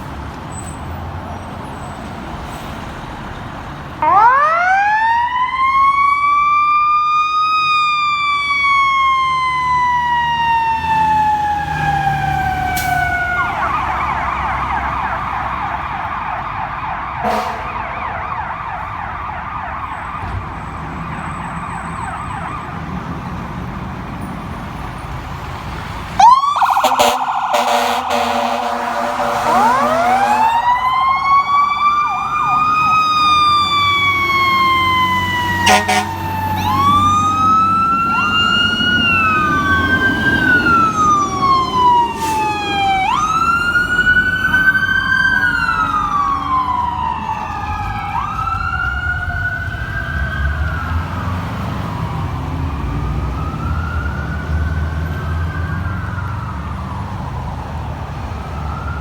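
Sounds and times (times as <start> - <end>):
truck engines rumbling: 0.0 - 59.0
sirens wailing: 0.9 - 59.0.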